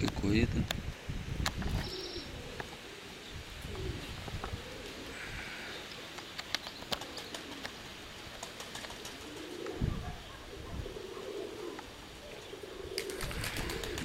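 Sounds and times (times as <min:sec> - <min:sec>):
pigeons cooing: 0:00.9 - 0:14.0.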